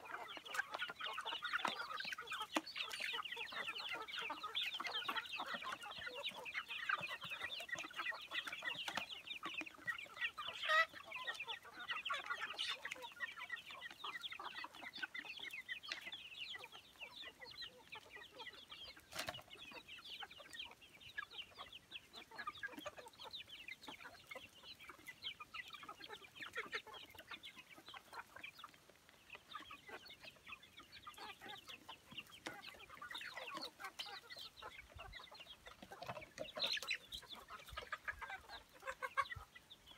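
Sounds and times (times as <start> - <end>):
chicks chirping: 0.0 - 39.9.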